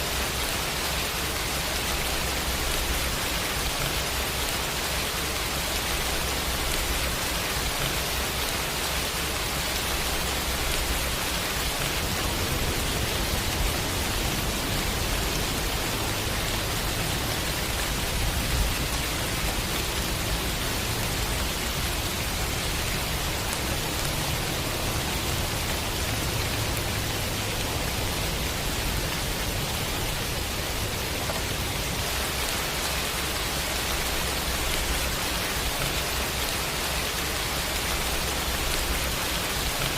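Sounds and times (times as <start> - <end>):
dense rain hiss: 0.0 - 39.9.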